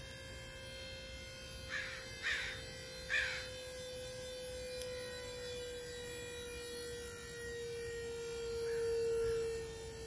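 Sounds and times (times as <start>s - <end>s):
hydraulic rig whine: 0.0s - 10.0s.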